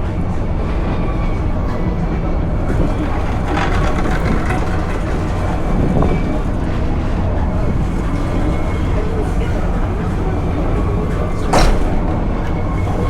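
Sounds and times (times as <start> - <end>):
funicular car rumbling on rails: 0.0 - 13.0.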